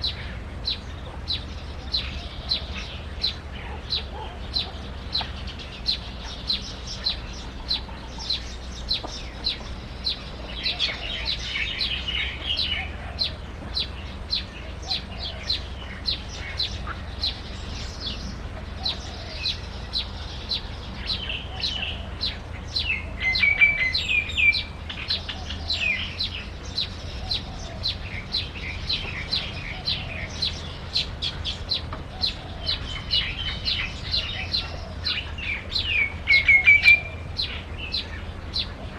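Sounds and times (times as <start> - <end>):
bird warbling song: 0.0 - 38.9
small birds chirping: 0.0 - 38.9.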